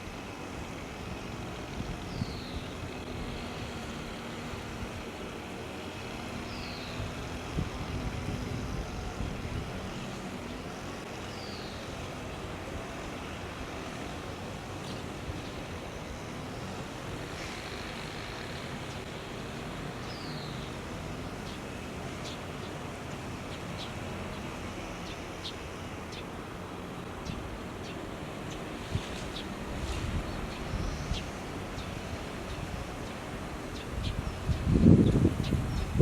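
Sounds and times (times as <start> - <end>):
distant traffic rumble: 0.0 - 36.0
faint engine hum: 0.0 - 36.0.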